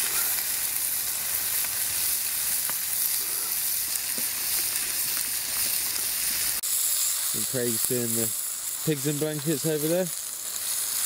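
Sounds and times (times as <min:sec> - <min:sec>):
food sizzling over a campfire: 0:00.0 - 0:11.0.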